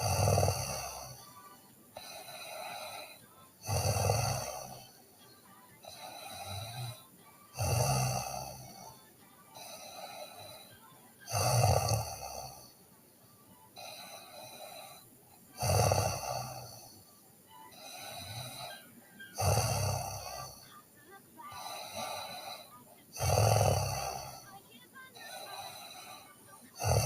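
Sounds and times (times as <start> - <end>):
girl snoring: 0.0 - 12.9, 13.7 - 27.0
soft breaths: 0.0 - 27.0.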